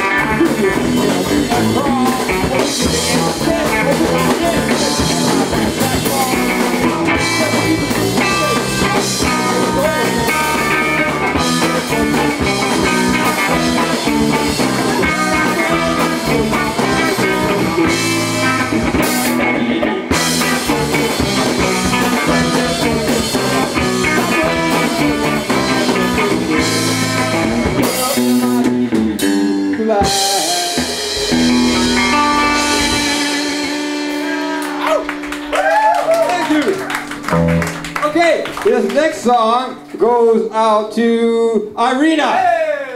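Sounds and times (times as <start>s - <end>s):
electric guitar: 0.0s - 40.4s
drums: 0.0s - 41.0s
bass guitar: 0.0s - 42.5s.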